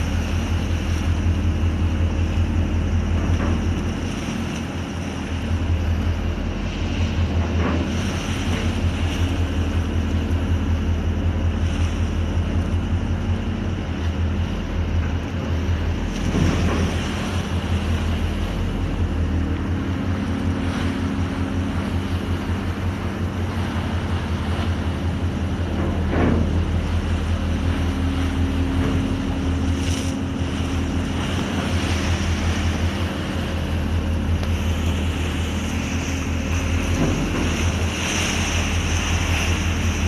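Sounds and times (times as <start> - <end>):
boat engine droning: 0.0 - 40.0
wind buffeting microphone: 0.0 - 40.0.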